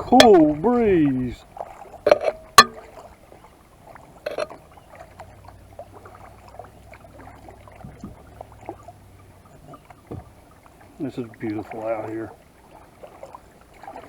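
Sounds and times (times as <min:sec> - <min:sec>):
paddle splash: 0:00.0 - 0:14.0
water dripping from paddle blades: 0:00.0 - 0:14.0.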